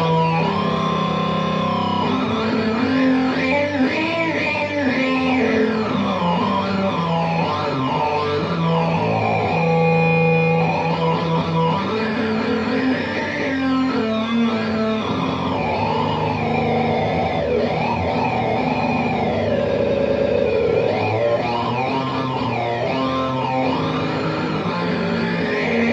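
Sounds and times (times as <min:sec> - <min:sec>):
electric guitar with synth-like fuzz: 0:00.0 - 0:25.9.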